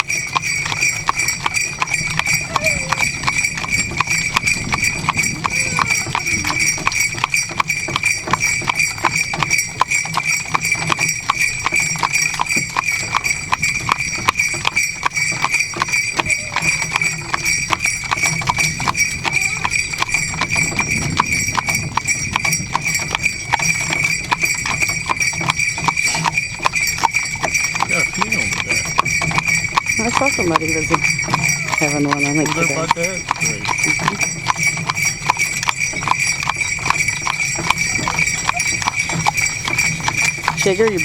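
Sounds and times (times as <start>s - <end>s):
horse hooves clip-clopping: 0.0s - 41.0s
sleigh bells jingling: 0.0s - 41.0s.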